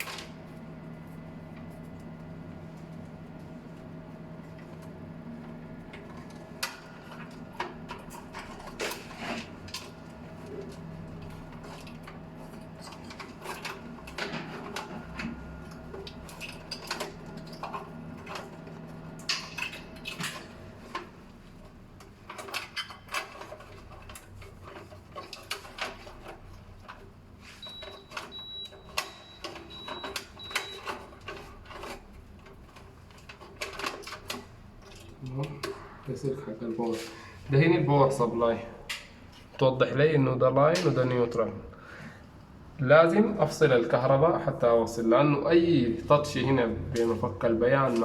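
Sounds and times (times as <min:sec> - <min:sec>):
clicks and rattles of wiring work: 0:00.0 - 0:37.2, 0:38.8 - 0:39.8, 0:40.6 - 0:41.5, 0:46.9 - 0:48.0.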